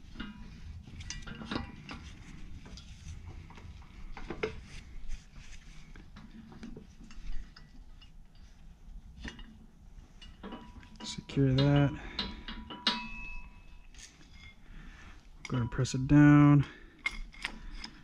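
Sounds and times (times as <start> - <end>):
metal clinks and knocks: 0.0 - 4.8, 6.1 - 14.6, 15.4 - 18.0.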